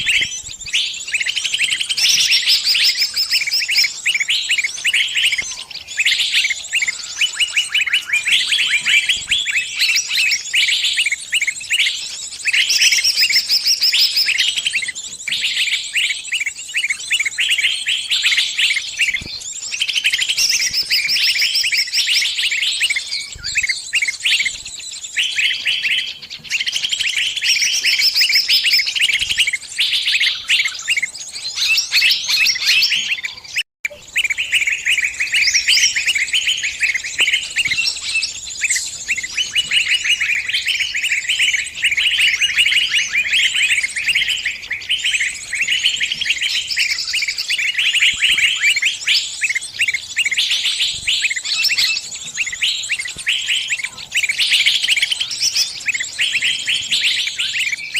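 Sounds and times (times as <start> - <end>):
songbird distress chirps: 0.0 - 57.9.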